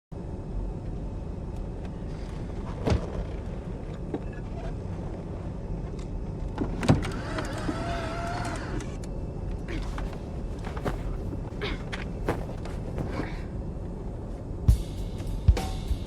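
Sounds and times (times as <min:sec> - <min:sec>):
airliner cabin drone: 0:00.2 - 0:15.6.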